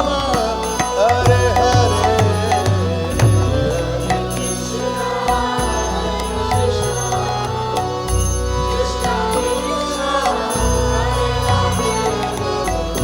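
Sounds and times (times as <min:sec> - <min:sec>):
continuous deep drone: 0:00.0 - 0:13.0
sustained melody: 0:00.0 - 0:13.0.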